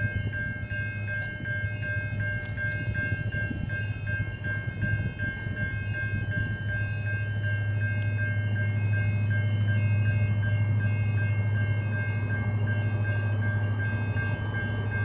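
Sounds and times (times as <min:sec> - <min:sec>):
pulsing high tone: 0:00.0 - 0:15.0
train running with low hum: 0:00.0 - 0:15.0.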